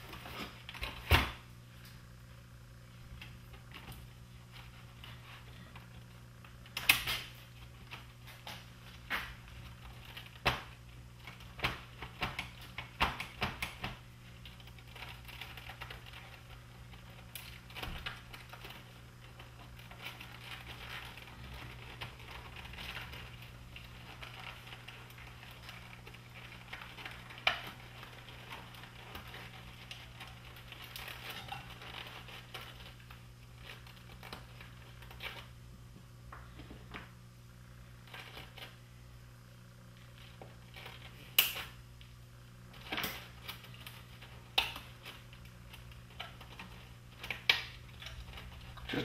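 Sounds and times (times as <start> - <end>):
soft rustling and crackling: 0.0 - 49.0
steady low hum: 0.0 - 49.0.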